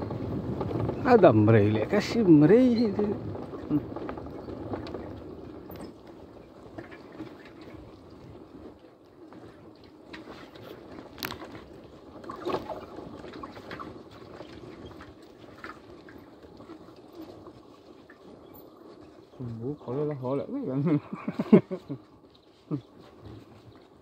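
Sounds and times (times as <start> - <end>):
vehicle rumbling on dirt track: 0.0 - 24.0.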